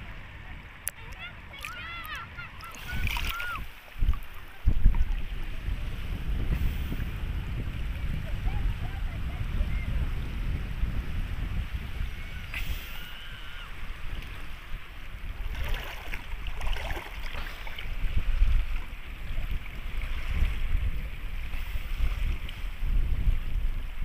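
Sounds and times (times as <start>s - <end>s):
small sea waves: 0.0s - 24.0s
wind buffeting microphone: 0.0s - 24.0s.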